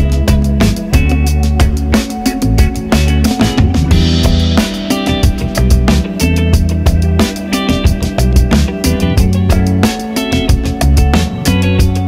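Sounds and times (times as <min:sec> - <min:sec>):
bass: 0:00.0 - 0:12.0
drums: 0:00.0 - 0:12.0
guitar: 0:00.0 - 0:12.0.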